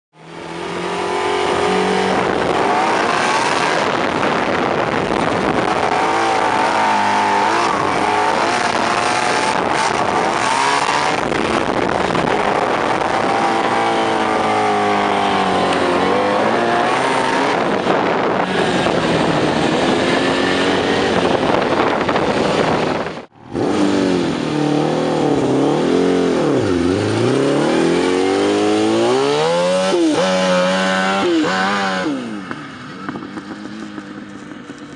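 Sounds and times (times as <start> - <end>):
motorcycle engine revving high: 0.2 - 34.9.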